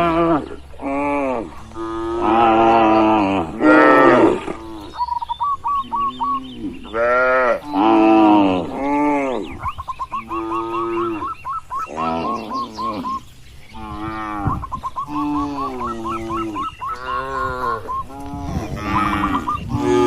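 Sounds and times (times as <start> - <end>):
cattle mooing: 0.0 - 5.1, 5.8 - 9.6, 10.2 - 20.0.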